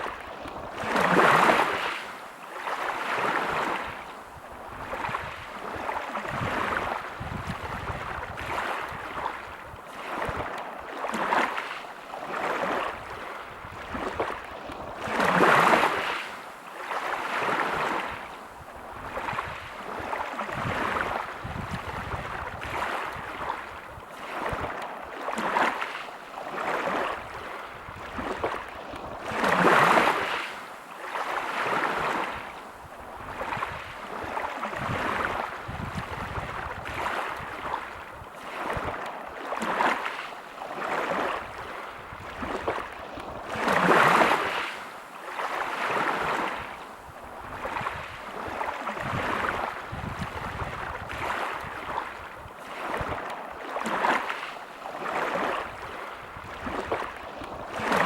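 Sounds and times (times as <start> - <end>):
waves washing over pebbles: 0.0 - 58.0.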